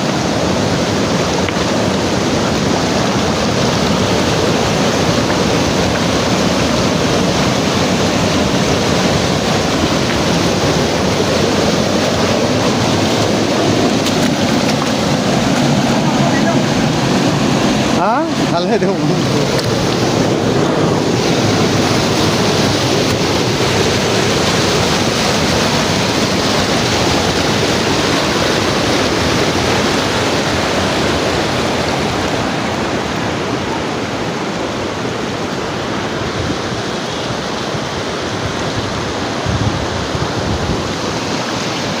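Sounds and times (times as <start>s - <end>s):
steady rushing noise: 0.0s - 42.0s.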